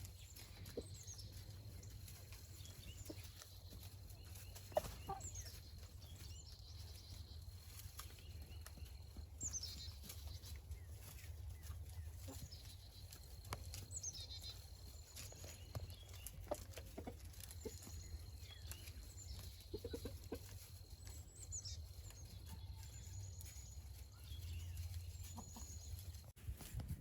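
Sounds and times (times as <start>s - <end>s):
chickens clucking: 0.0s - 26.3s.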